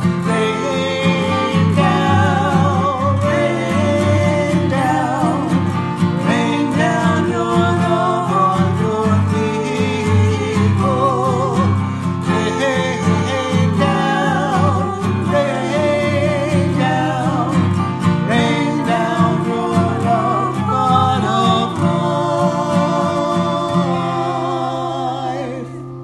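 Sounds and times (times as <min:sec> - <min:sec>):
choir singing: 0:00.0 - 0:26.0
guitar accompaniment: 0:00.0 - 0:26.0.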